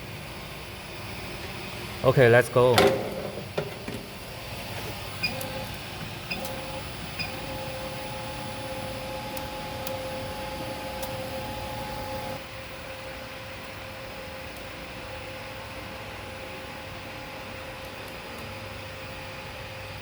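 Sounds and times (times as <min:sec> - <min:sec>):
wire feeder motor whine: 0:00.0 - 0:20.0.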